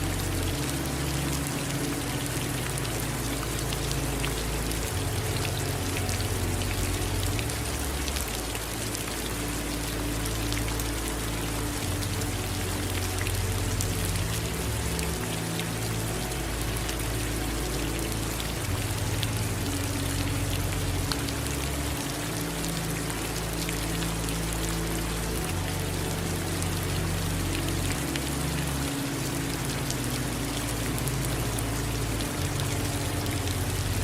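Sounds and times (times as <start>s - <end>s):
raindrops pattering: 0.0s - 34.0s.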